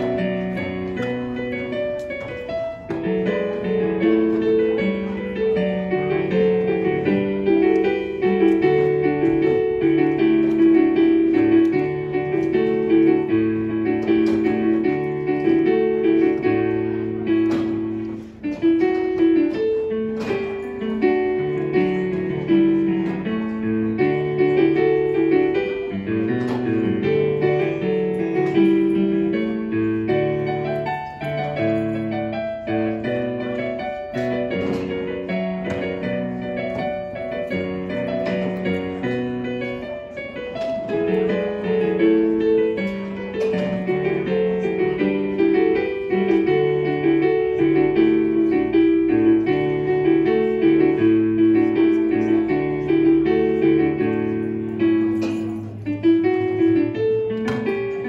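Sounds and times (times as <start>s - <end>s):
slow keyboard chords: 0.0s - 58.0s.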